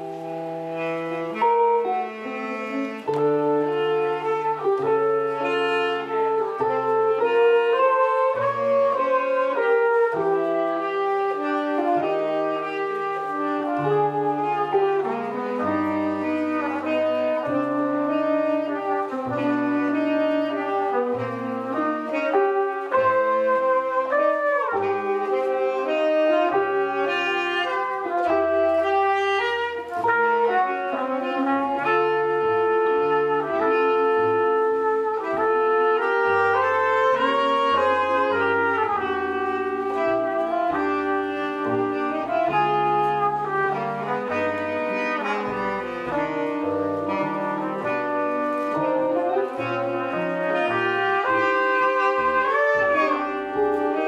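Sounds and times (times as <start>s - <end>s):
trumpet and saxophone melody: 0.0s - 54.0s.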